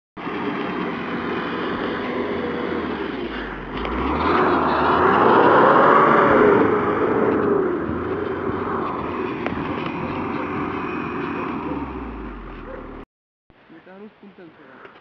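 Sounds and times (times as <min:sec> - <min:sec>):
car engine revving: 0:00.2 - 0:13.1.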